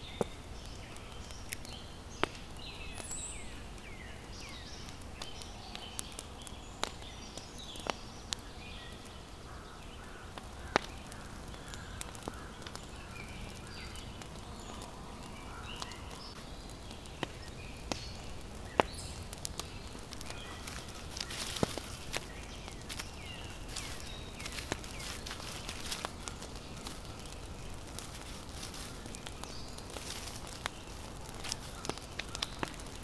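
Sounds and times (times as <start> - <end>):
birds chirping and calling: 2.6 - 33.0
sharp cracks: 4.5 - 8.5, 10.0 - 33.0.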